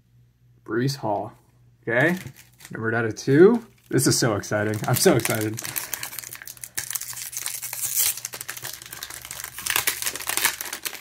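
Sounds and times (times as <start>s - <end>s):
foil wrapper crinkling: 2.0s - 11.0s.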